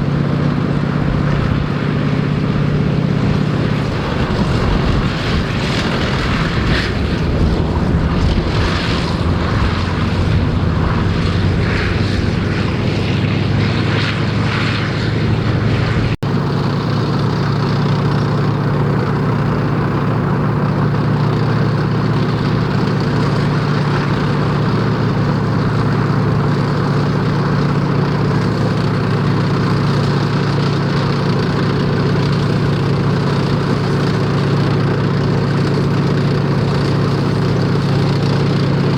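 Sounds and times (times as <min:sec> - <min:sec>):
heavy vehicle engine drone: 0:00.0 - 0:38.9.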